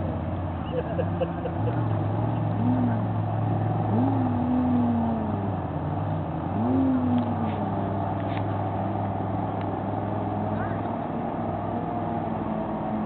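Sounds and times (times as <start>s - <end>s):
racing boat engine droning: 0.0s - 13.0s.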